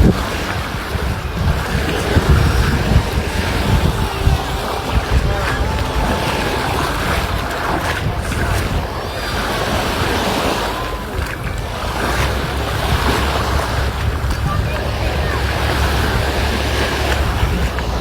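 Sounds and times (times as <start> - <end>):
sea waves washing onto beach: 0.0 - 18.0
wind buffeting microphone: 0.0 - 18.0.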